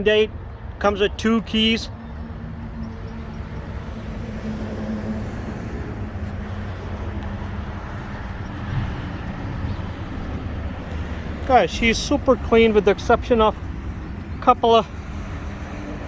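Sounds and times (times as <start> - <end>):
motorcycle engine idling: 2.0 - 16.0.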